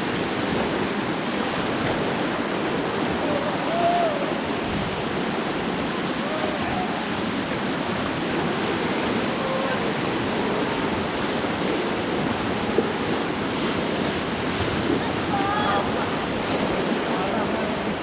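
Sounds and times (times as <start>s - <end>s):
whitewater rushing: 0.0s - 18.0s
wind on microphone: 0.0s - 18.0s.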